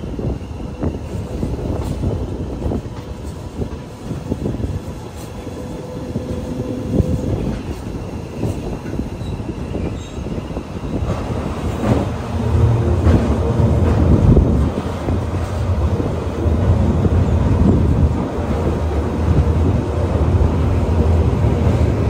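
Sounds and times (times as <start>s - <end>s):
train rumbling on the track: 0.0s - 22.0s
wheels clattering on rails: 1.6s - 22.0s.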